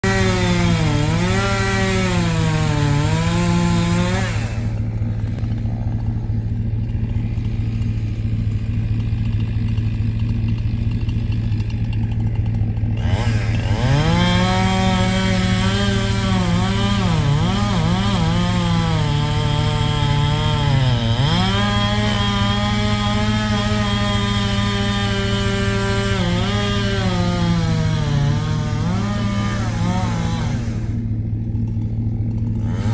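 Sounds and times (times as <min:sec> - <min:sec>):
chainsaw cutting wood: 0:00.0 - 0:32.9.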